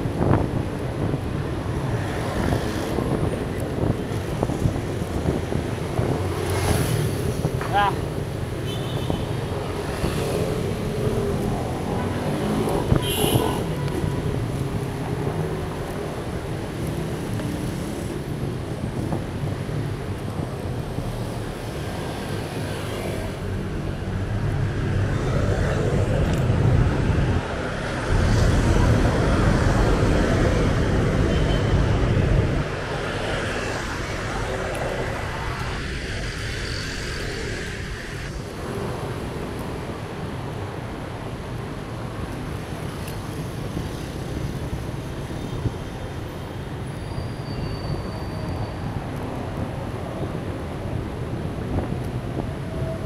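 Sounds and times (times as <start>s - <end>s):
traffic passing close by: 0.0s - 53.0s.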